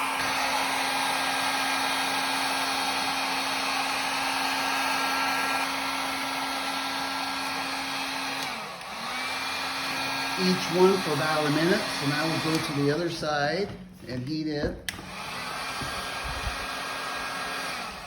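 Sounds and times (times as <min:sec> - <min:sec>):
heat gun fan humming: 0:00.0 - 0:18.0.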